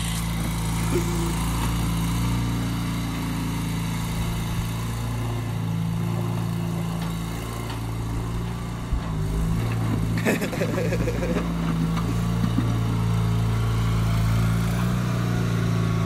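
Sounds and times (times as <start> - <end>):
wheels turning on gravel: 0.0 - 15.2
loader engine running: 0.0 - 16.0.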